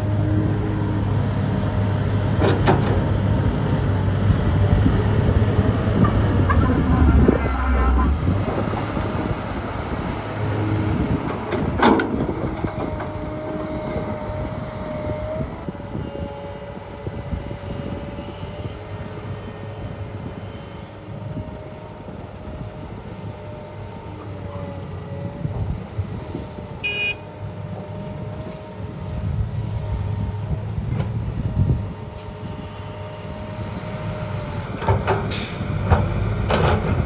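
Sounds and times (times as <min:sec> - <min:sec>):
excavator engine rumbling: 0:00.0 - 0:37.0.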